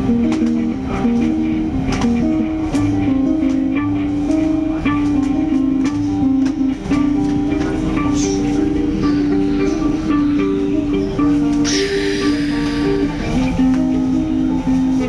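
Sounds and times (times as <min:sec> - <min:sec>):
guitar melody: 0:00.0 - 0:15.0.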